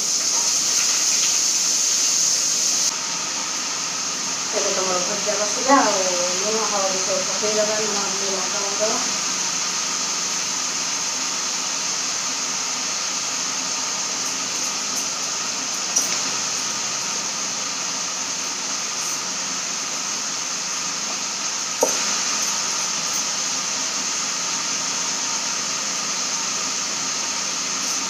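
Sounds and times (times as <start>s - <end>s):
vegetables sizzling in wok: 0.0s - 28.0s.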